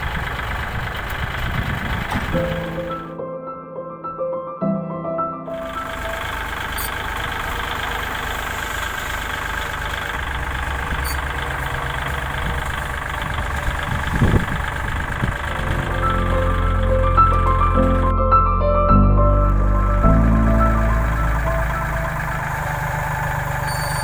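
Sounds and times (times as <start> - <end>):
truck engine idling: 0.0 - 3.2, 5.6 - 18.1, 19.2 - 24.0.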